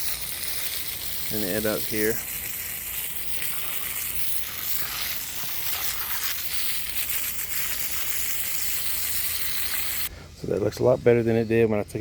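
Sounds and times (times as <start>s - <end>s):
hose spray hissing on mesh: 0.0s - 10.1s.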